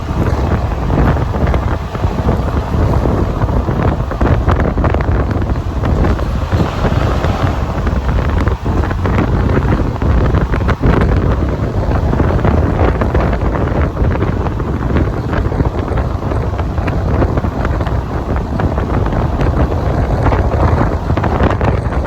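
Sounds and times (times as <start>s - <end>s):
train running noise: 0.0s - 22.0s
wind buffeting microphone: 0.0s - 22.0s.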